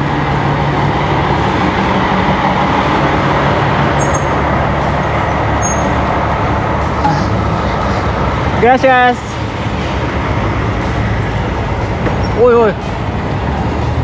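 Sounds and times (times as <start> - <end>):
dense traffic noise: 0.0 - 14.0
truck engines humming: 0.0 - 14.0.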